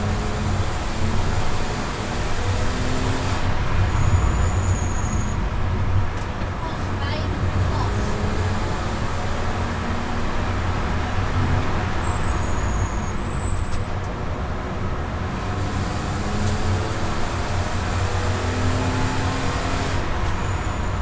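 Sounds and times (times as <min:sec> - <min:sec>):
car engine at speed: 0:00.0 - 0:21.0
road and wind rumble: 0:00.0 - 0:21.0.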